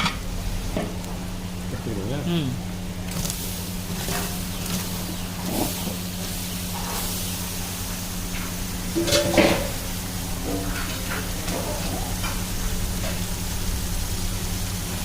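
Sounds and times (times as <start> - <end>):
steady low hum: 0.0 - 15.0
food sizzling in a pot: 2.7 - 15.0.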